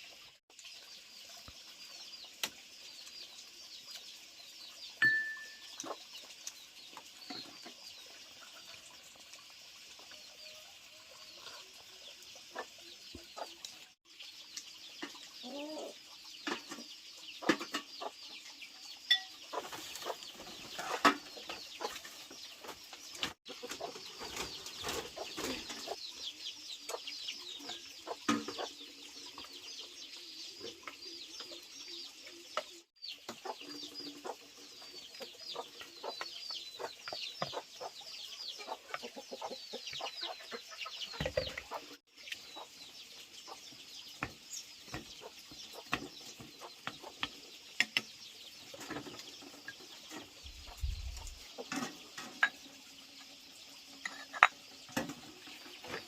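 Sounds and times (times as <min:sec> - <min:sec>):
chickens clucking: 0:05.1 - 0:08.7, 0:11.1 - 0:13.9, 0:14.9 - 0:56.0.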